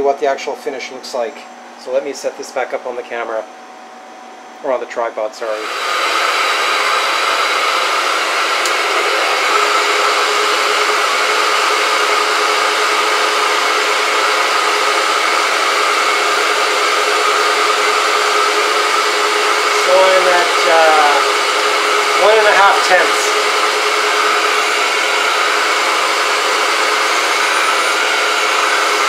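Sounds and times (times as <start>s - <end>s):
surface grinder whirring: 5.6s - 29.0s.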